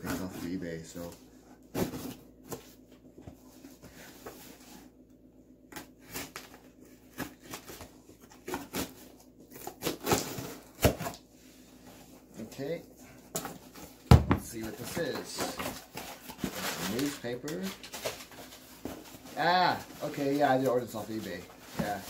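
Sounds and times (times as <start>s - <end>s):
cardboard and tape rustling: 0.0s - 5.0s, 5.6s - 22.0s.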